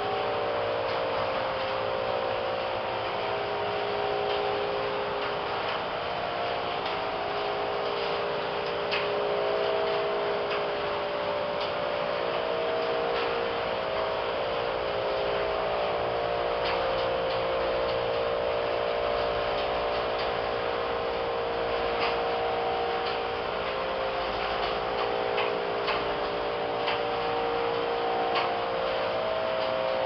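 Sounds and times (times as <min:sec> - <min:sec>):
constant humming tones: 0:00.0 - 0:30.0.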